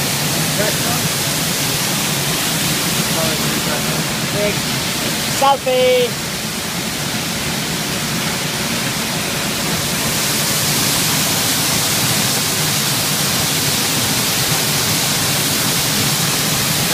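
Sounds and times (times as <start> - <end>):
waterfall splashing: 0.0 - 16.9.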